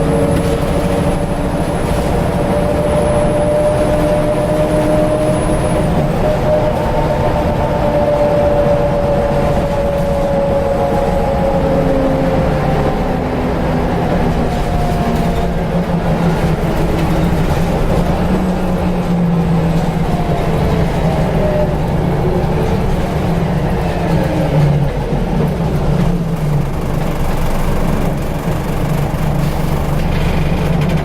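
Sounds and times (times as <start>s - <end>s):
bus diesel engine drone: 0.0s - 31.0s.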